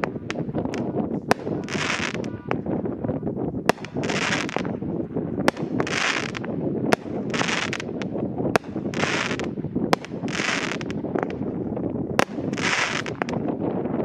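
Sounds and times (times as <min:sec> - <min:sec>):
firework bangs with hissing: 0:00.0 - 0:02.8, 0:03.7 - 0:13.6
wind on microphone: 0:00.0 - 0:14.0.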